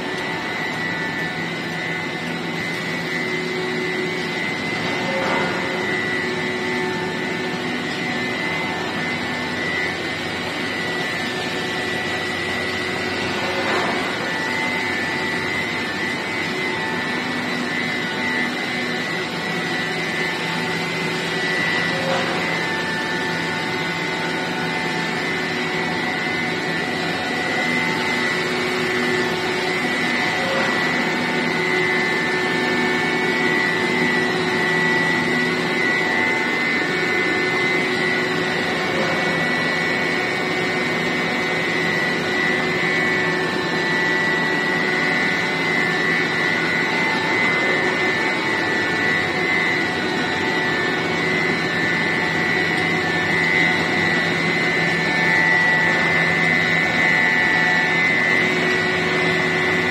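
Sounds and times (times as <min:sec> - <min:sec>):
factory machinery high whine: 0:00.0 - 0:59.9.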